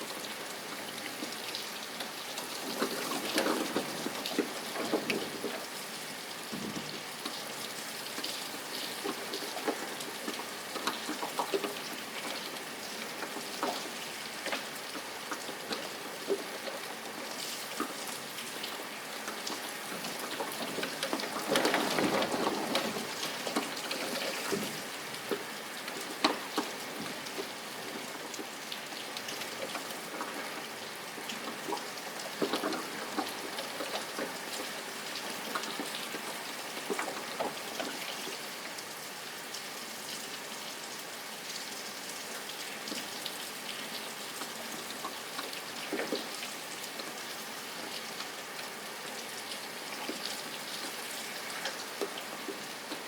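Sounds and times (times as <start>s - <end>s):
rain pattering on hard surface: 0.0s - 53.0s.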